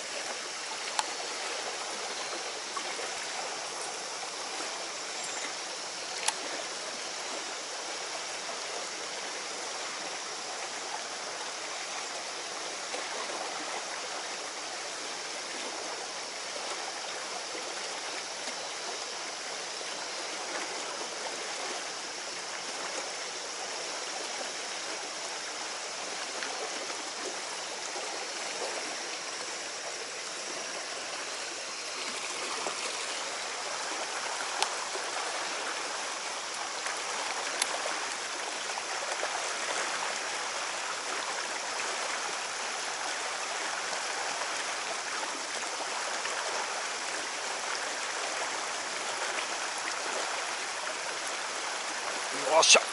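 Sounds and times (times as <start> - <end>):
stream running over rocks: 0.0 - 52.9.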